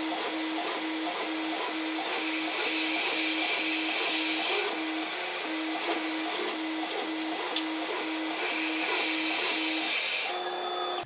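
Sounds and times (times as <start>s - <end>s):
milling machine drilling metal: 0.0s - 11.0s
pulsing machine hum: 0.0s - 11.0s.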